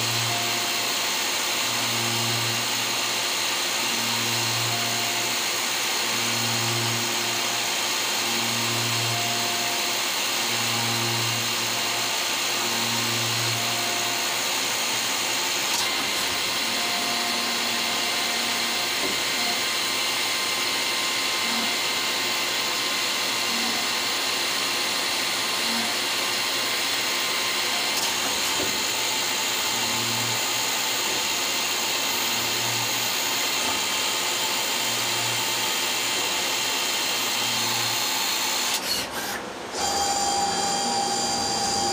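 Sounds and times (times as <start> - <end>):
lathe running high hiss: 0.0 - 41.9.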